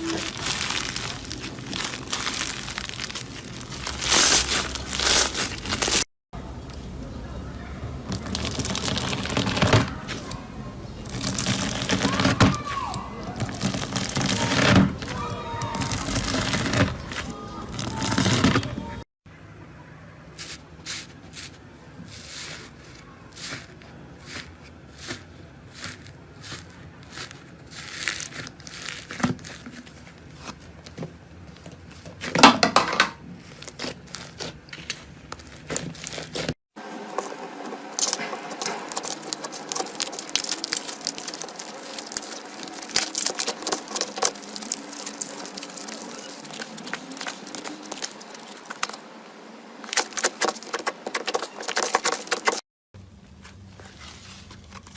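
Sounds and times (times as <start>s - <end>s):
continuous slime crackling: 0.0s - 19.0s, 20.3s - 32.3s, 33.3s - 49.2s, 49.8s - 52.6s.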